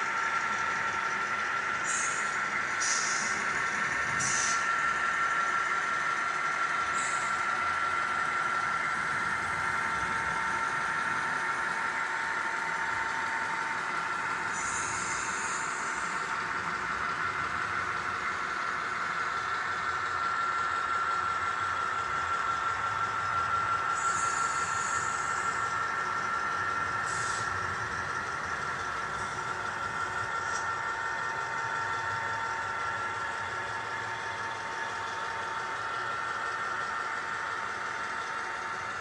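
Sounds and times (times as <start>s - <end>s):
model train whine: 0.0s - 39.0s.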